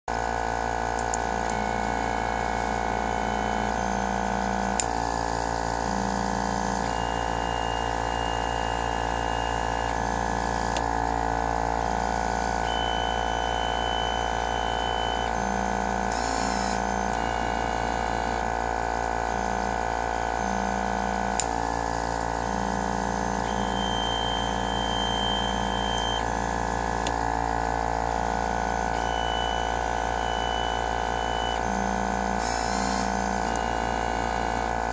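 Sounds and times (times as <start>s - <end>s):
machine mechanical drone: 0.1s - 34.9s
motor whines: 0.1s - 34.9s.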